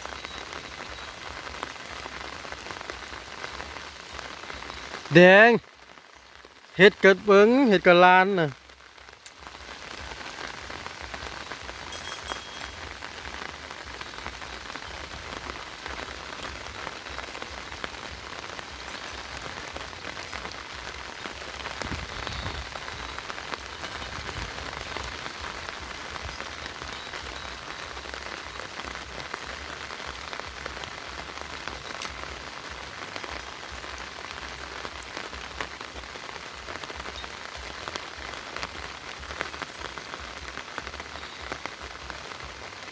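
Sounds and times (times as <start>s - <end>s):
raindrop ticks: 0.0s - 42.9s
steady rain falling: 0.0s - 42.9s.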